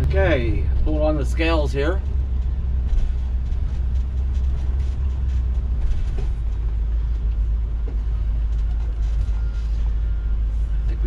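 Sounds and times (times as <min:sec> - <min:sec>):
faint rattles: 0:00.0 - 0:10.6
motorhome engine rumbling: 0:00.0 - 0:11.0.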